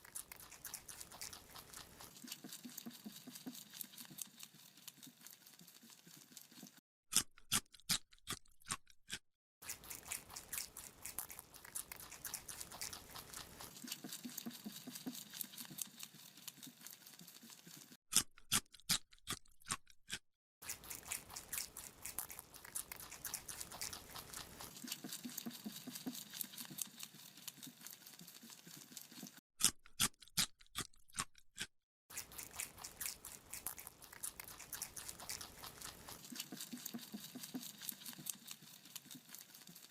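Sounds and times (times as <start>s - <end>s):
rabbit chewing carrot: 0.0s - 39.9s.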